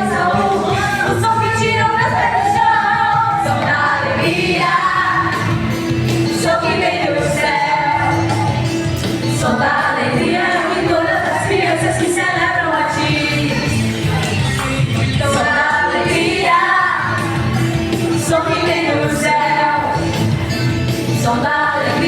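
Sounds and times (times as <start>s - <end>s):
pop song with female singing: 0.0s - 22.0s.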